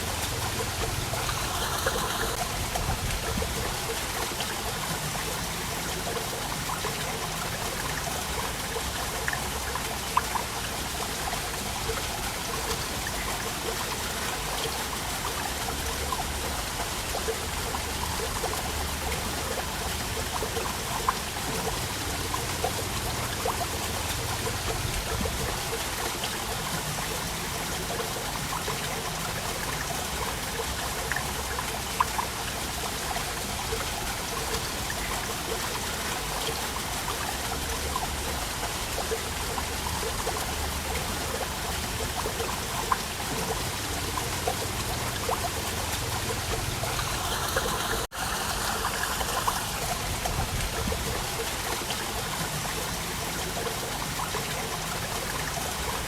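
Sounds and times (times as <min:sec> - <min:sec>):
water trickles and drips: 0:00.0 - 0:56.0
waterfall splashing: 0:00.0 - 0:56.0.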